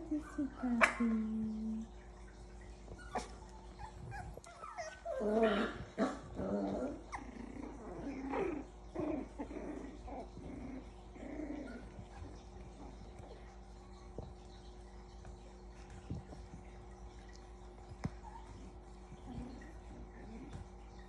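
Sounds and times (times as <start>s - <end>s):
puppies growling and yipping: 0.0s - 21.0s.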